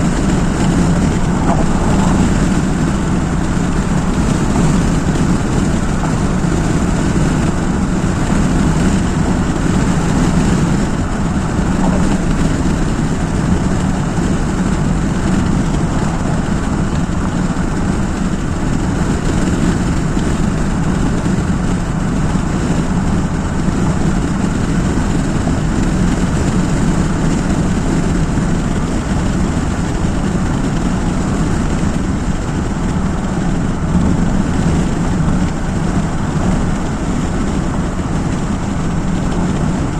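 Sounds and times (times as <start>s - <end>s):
vehicle road and engine rumble: 0.0s - 39.9s.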